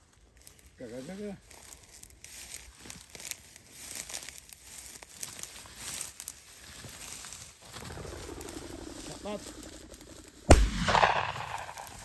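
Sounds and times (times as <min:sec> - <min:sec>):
dry reeds rustling and snapping: 0:00.0 - 0:10.5.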